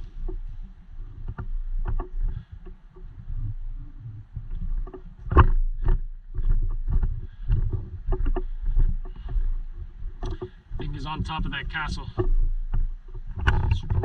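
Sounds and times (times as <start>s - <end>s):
footsteps and gear rustling: 0.0s - 14.0s
low rumble on the microphone: 0.0s - 14.0s.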